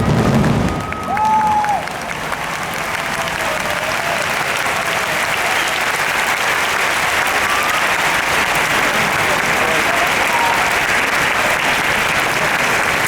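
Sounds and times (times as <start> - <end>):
large crowd applauding: 0.0 - 13.0.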